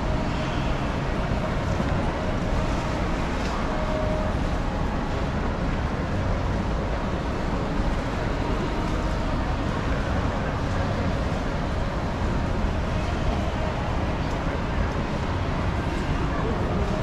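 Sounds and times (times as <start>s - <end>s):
ambient rumble and hiss: 0.0s - 17.0s.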